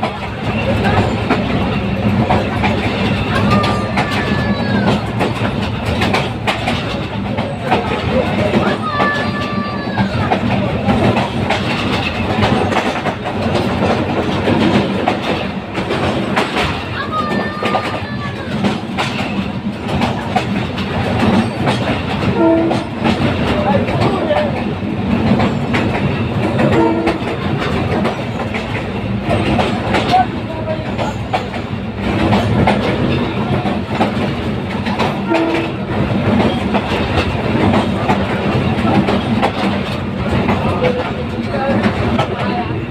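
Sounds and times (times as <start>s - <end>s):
train engine rumble: 0.0s - 42.9s
wheels clacking over rail joints: 0.0s - 42.9s.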